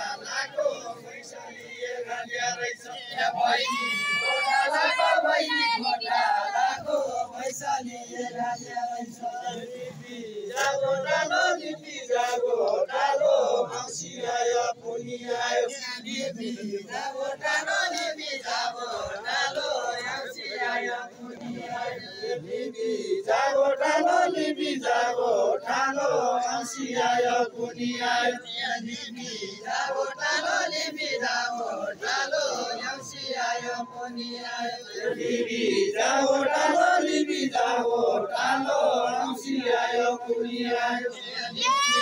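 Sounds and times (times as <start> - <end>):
group singing folk chorus: 0.0 - 42.0.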